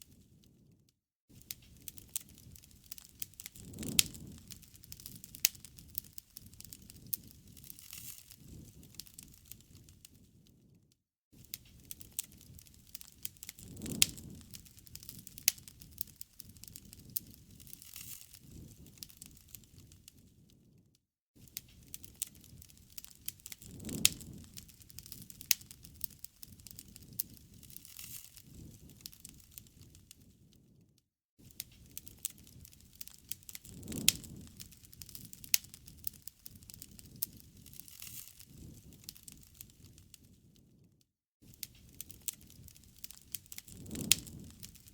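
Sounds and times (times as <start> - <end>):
flames fluttering: 0.1 - 10.8, 11.4 - 20.8, 21.4 - 44.9
wood fire crackling and popping: 1.3 - 10.8, 11.4 - 20.8, 21.4 - 30.8, 31.4 - 40.8, 41.4 - 44.9.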